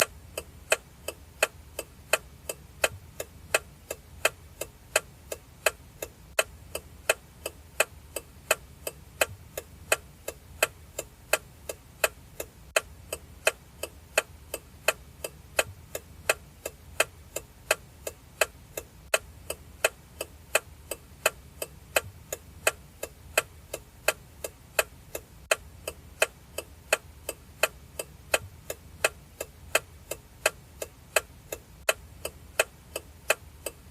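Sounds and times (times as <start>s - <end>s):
car turn signal ticking: 0.0s - 33.9s.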